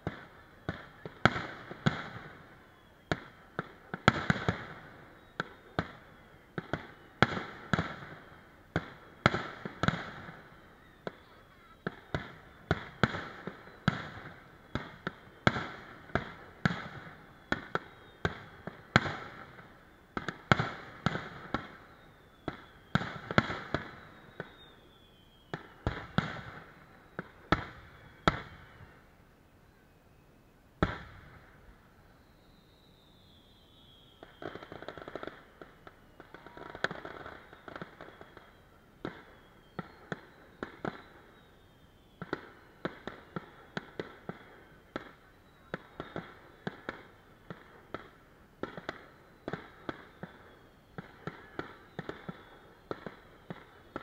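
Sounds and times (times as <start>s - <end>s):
fireworks bangs with crackling tails: 0.0s - 29.1s, 30.8s - 54.0s.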